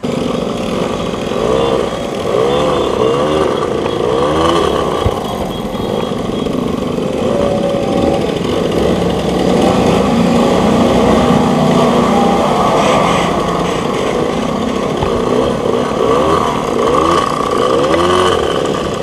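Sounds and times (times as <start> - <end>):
moped engines revving: 0.0 - 19.0.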